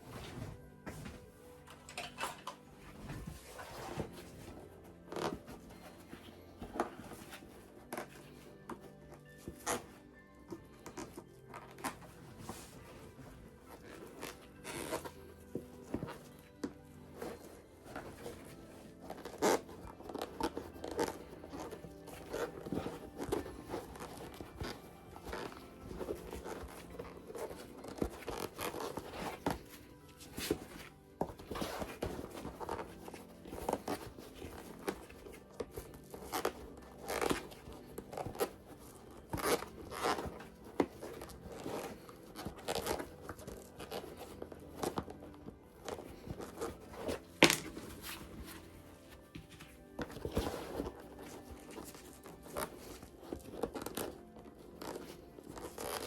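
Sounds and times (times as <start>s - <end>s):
light background music: 0.0s - 56.0s
leather bag squeaking and creaking: 1.5s - 56.0s.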